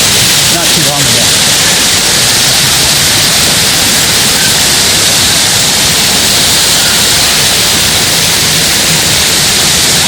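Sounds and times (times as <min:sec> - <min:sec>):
waterfall rushing over rocks: 0:00.0 - 0:10.0.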